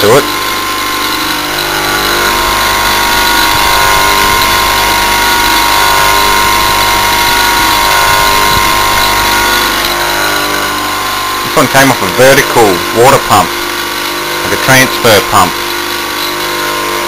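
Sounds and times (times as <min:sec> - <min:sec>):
electric motor humming and whining: 0:00.0 - 0:17.0.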